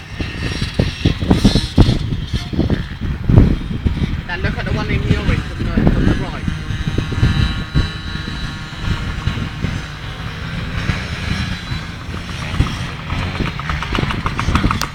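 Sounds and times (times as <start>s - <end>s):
motocross bike engine running: 0.0s - 14.9s.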